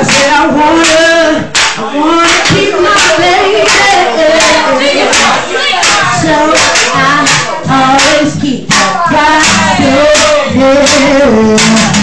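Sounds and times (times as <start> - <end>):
hand claps: 0.0 - 12.0
woman singing into microphone: 0.0 - 12.0.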